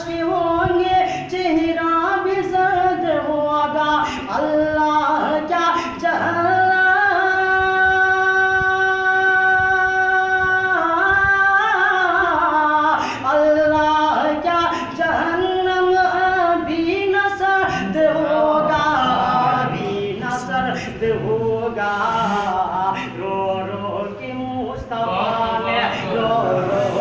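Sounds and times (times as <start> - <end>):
man singing unaccompanied: 0.0 - 27.0.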